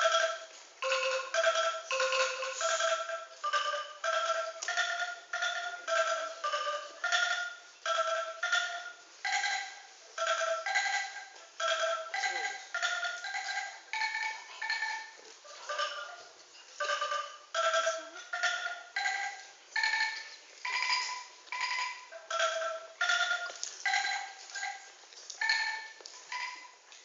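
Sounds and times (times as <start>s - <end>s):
angklung melody: 0.0s - 27.0s.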